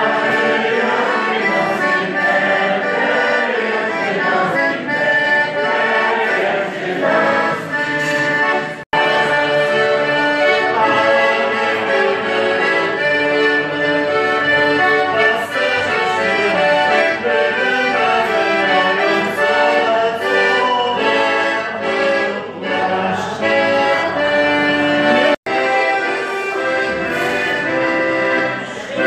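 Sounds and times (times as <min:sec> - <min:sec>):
accordion music: 0:00.0 - 0:29.0.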